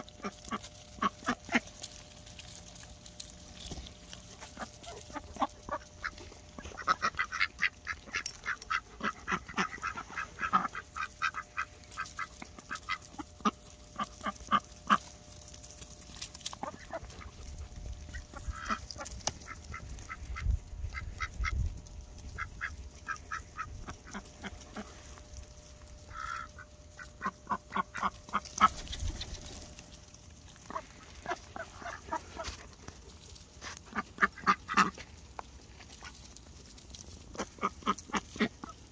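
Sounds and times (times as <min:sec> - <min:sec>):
ducks quacking: 0:00.0 - 0:02.1, 0:03.3 - 0:15.2, 0:16.5 - 0:33.0, 0:33.6 - 0:35.3, 0:37.3 - 0:38.9
ducks pecking: 0:00.0 - 0:38.9.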